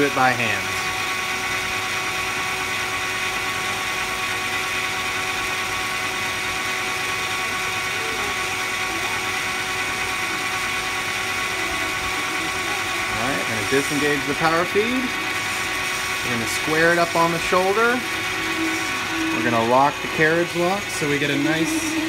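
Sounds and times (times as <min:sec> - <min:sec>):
lathe cutting hiss: 0:00.0 - 0:22.0
metal lathe motor whine: 0:00.0 - 0:22.0.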